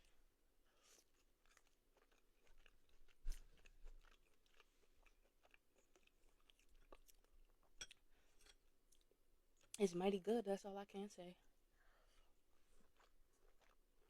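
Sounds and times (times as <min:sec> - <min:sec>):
faint chewing: 0:00.0 - 0:09.8, 0:11.8 - 0:14.0.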